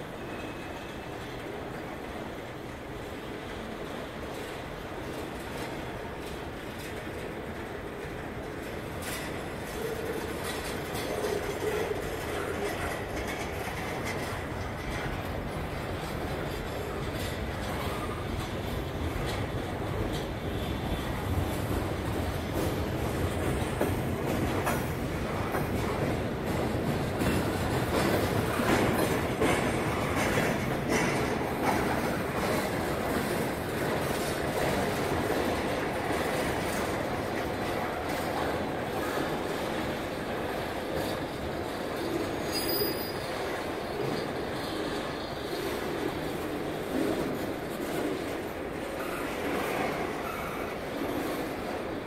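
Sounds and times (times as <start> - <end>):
train wheels clattering over rail joints: 3.6 - 51.8.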